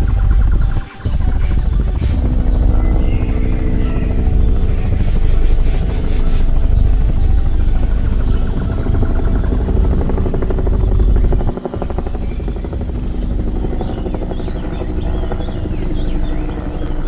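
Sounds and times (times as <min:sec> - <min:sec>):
birds chirping: 0:00.0 - 0:17.0
helicopter rotor chop: 0:00.0 - 0:17.0.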